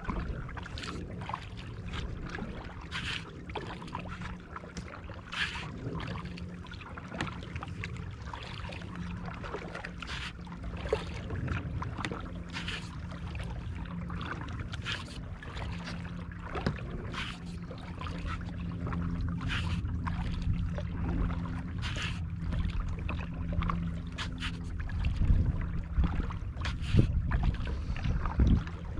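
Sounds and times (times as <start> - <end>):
low hum and rumble: 0.0 - 28.9
paddle splashing in water: 0.0 - 28.9.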